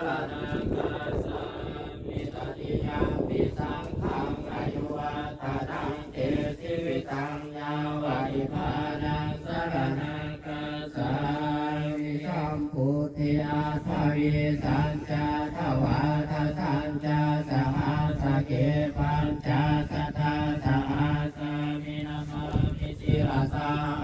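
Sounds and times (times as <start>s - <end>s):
monks chanting in unison: 0.0s - 24.0s.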